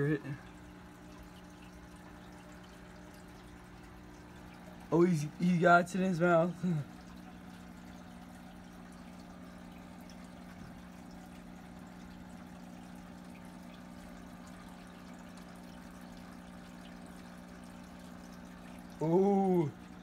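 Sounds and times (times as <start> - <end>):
aquarium filter humming: 0.0 - 20.0
water trickling: 0.0 - 20.0.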